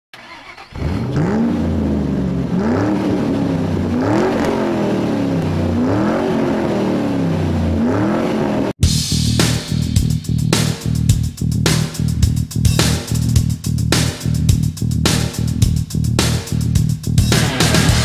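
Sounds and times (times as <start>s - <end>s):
car engine revving: 0.2s - 8.8s, 9.4s - 18.0s.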